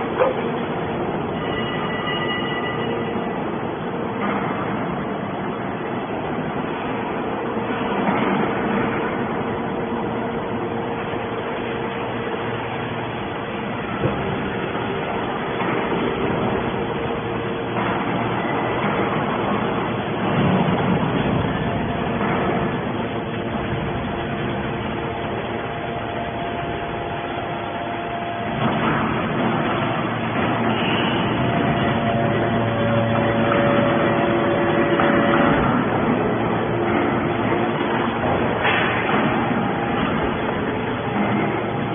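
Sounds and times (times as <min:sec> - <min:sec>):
scrap-metal baler humming: 0:00.0 - 0:41.9.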